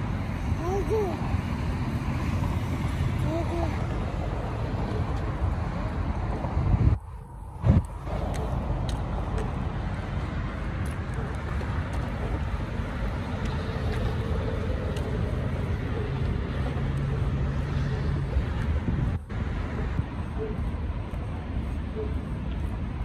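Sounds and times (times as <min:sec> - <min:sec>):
freeway traffic: 0:00.0 - 0:23.0
low engine hum: 0:00.0 - 0:23.0.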